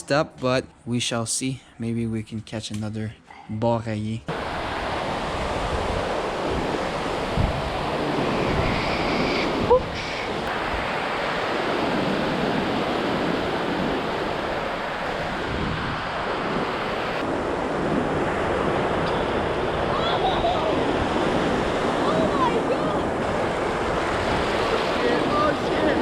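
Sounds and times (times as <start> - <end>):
sea waves washing in: 4.3 - 26.0
wind on microphone: 4.3 - 26.0.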